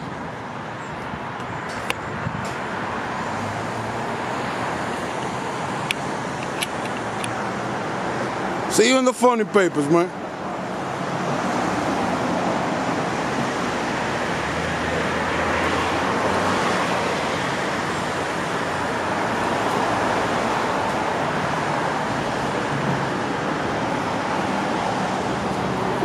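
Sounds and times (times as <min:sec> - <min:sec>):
cars passing on street: 0:00.0 - 0:26.0.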